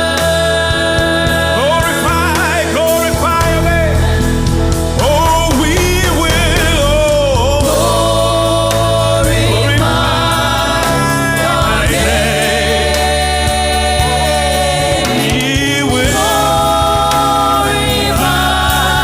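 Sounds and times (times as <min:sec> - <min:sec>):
band accompaniment with bass: 0:00.0 - 0:19.0
gospel choir singing: 0:00.0 - 0:19.0.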